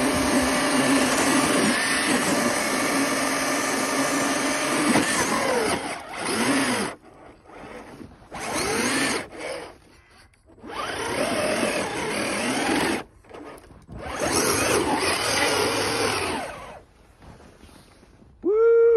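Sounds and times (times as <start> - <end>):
tyres spinning through snow: 0.0 - 9.9, 10.5 - 18.2
electric motor whining: 0.0 - 16.8.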